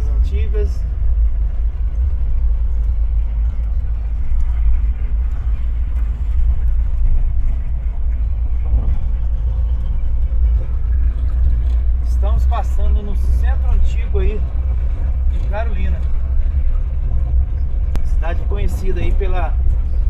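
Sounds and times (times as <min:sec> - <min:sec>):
van engine and road rumble: 0:00.0 - 0:20.0.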